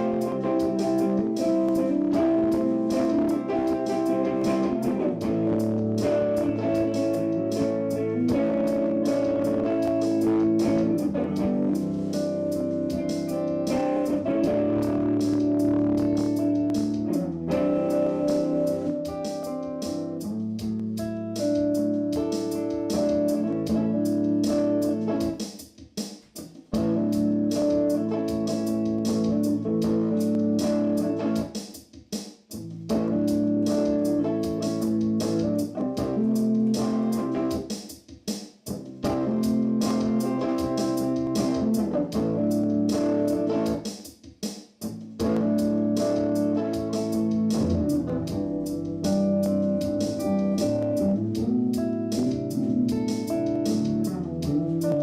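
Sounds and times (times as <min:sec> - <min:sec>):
looped guitar phrase: 0:00.0 - 0:25.4, 0:26.7 - 0:31.5, 0:32.6 - 0:37.7, 0:38.7 - 0:43.8, 0:44.8 - 0:55.0.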